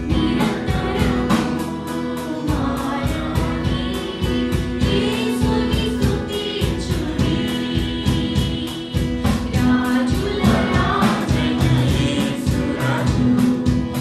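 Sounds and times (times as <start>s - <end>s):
keyboard: 0.0s - 14.0s
strummed acoustic guitar: 0.0s - 14.0s
woman singing into microphone: 0.0s - 14.0s.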